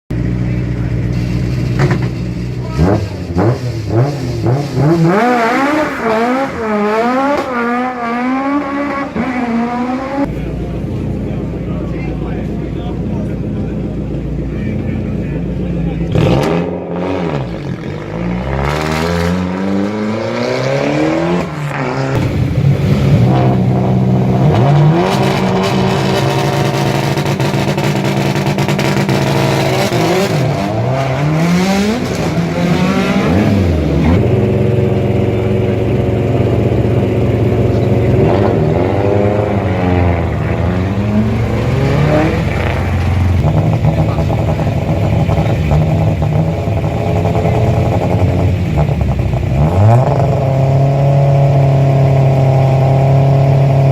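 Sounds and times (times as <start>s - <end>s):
rally car engines revving: 0.1s - 53.9s.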